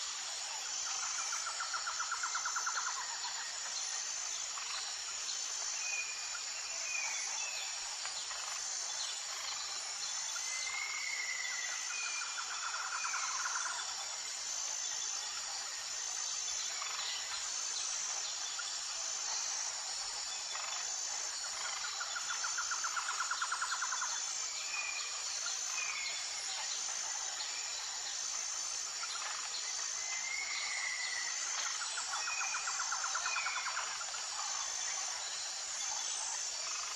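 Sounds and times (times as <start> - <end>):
high insect drone: 0.0 - 36.9.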